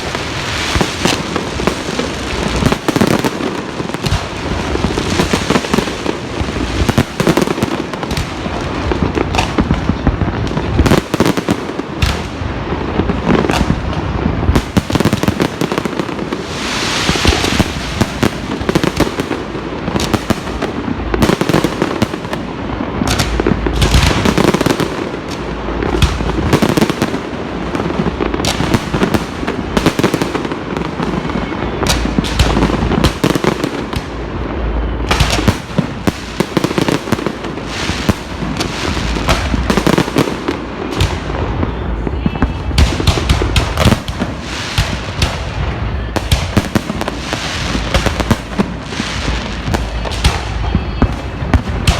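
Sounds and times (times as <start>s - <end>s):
fireworks bangs and crackles: 0.0s - 51.9s
fireworks hissing: 0.0s - 51.9s.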